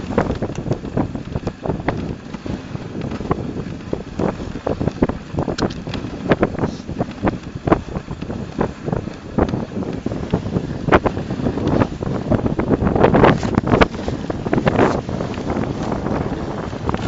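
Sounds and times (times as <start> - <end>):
sled runners rushing on snow: 0.0 - 17.0
wind on microphone: 0.0 - 17.0.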